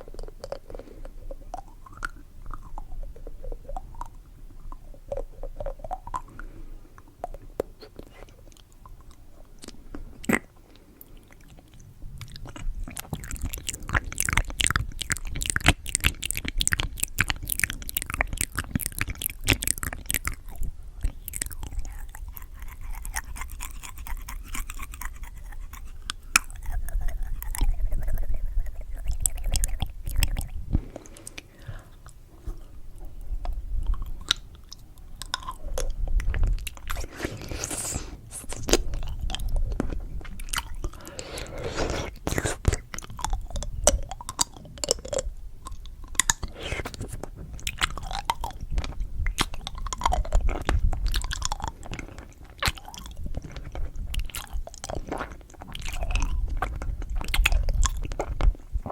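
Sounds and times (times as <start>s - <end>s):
candy chewing mouth clicks: 0.0s - 58.9s.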